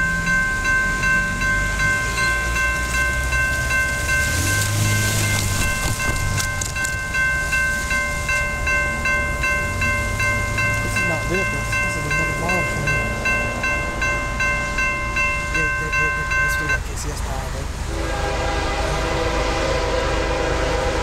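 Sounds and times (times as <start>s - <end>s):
car rumbling over crossing: 0.0s - 21.0s
railroad crossing bell ringing: 0.0s - 21.0s.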